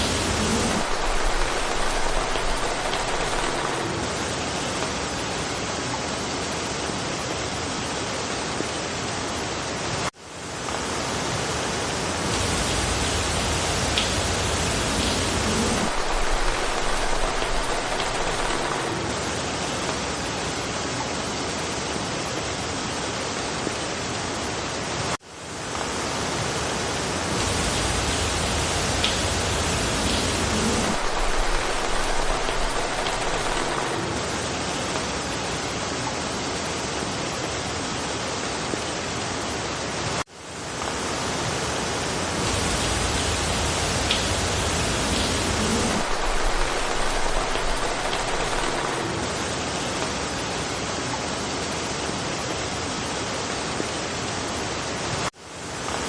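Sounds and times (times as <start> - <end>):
steady rain in a forest: 0.0 - 56.0.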